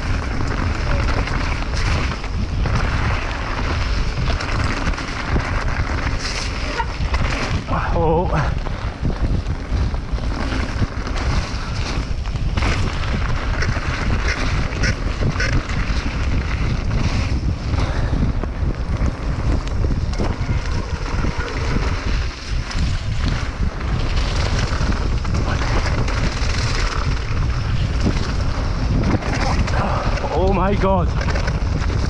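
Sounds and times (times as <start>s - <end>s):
bike clicks and rattles: 0.0s - 32.0s
mountain bike rumbling on trail: 0.0s - 32.0s
wind buffeting microphone: 0.0s - 32.0s.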